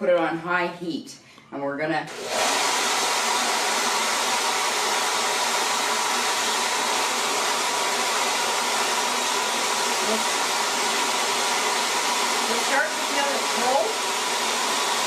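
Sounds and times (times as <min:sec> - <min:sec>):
hair dryer blowing: 0:02.1 - 0:15.0.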